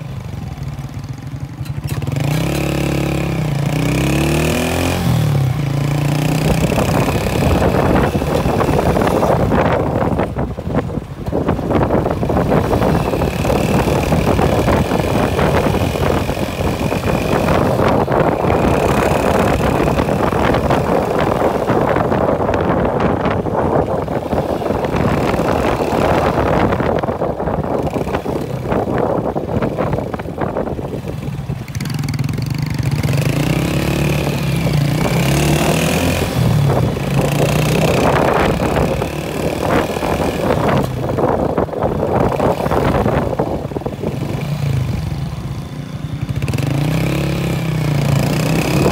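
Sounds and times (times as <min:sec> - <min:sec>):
motorcycle engine rumble: 0:00.0 - 0:48.9
road noise: 0:00.0 - 0:48.9.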